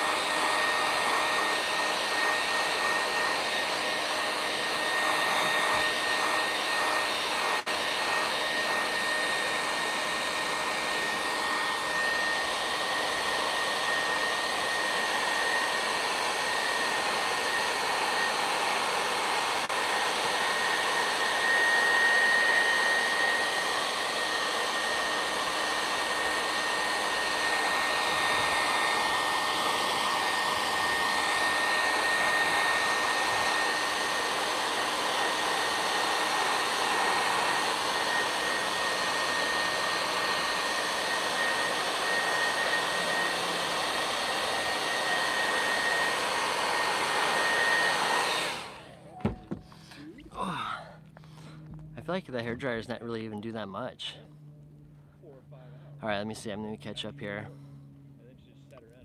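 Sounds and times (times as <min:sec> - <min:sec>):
hair dryer running: 0:00.0 - 0:54.9.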